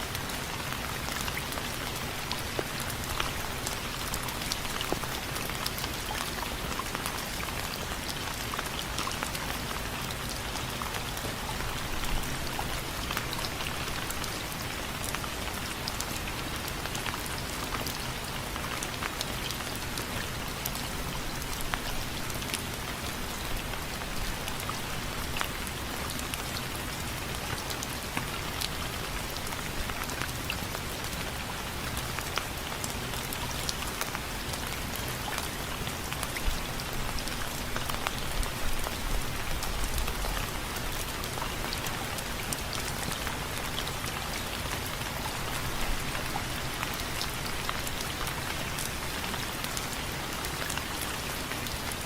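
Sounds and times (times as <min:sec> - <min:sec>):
rainfall hiss: 0:00.0 - 0:52.0.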